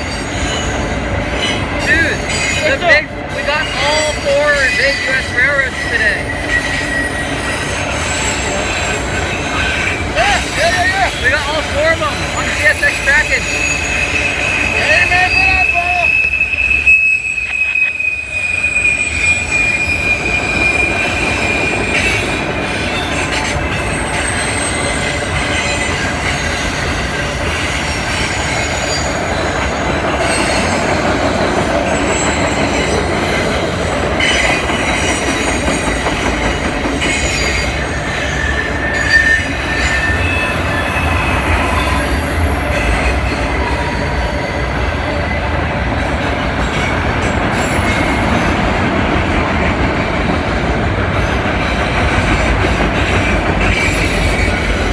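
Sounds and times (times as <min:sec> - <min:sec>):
train wheels rumbling on rail: 0:00.0 - 0:54.9
wheel flanges squealing: 0:00.0 - 0:54.9.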